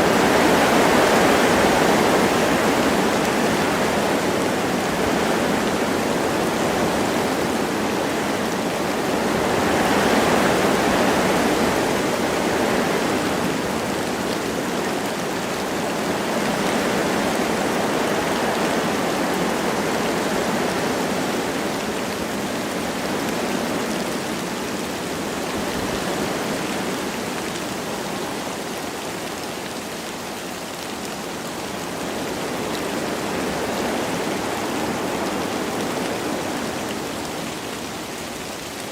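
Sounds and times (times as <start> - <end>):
light rain falling: 0.0 - 38.9
wind through trees: 0.0 - 38.9.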